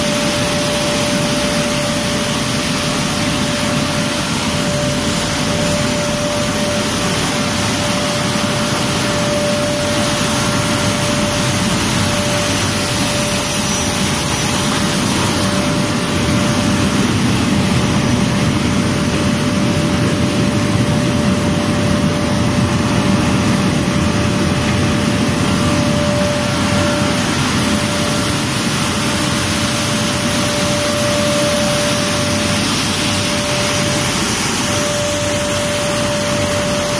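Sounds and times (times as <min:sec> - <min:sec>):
constant mid-pitched hum: 0:00.0 - 0:36.9.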